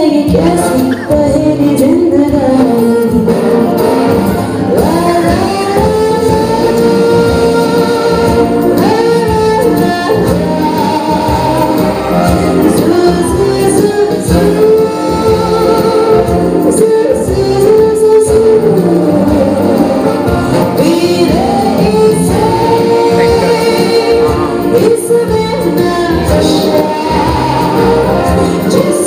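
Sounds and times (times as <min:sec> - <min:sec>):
instrumental backing: 0:00.0 - 0:29.0.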